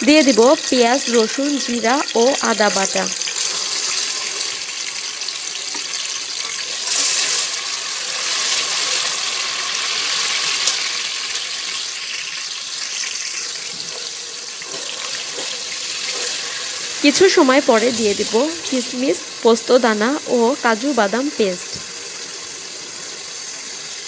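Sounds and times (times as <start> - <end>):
paste sizzling in hot oil: 0.0 - 24.0.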